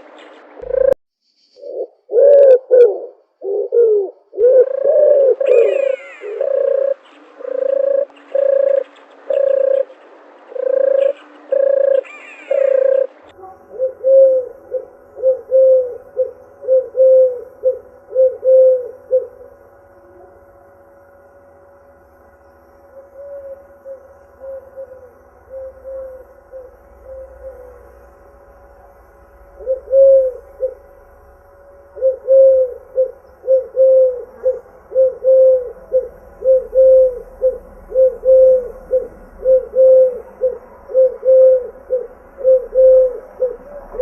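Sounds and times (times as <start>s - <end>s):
doves cooing: 0.0s - 1.0s, 1.6s - 20.8s, 22.8s - 44.0s
steady background hum: 0.0s - 44.0s.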